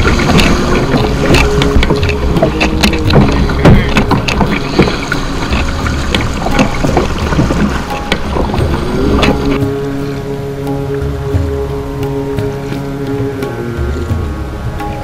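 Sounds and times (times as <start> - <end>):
paddle splashes: 0.0 - 15.0
water splashing against hull: 0.0 - 15.0
wind on microphone: 0.0 - 15.0.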